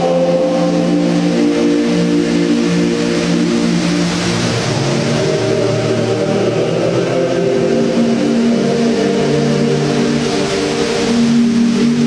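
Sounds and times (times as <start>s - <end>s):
held low musical notes: 0.0s - 12.0s
waterfall rushing into basin: 0.0s - 12.0s.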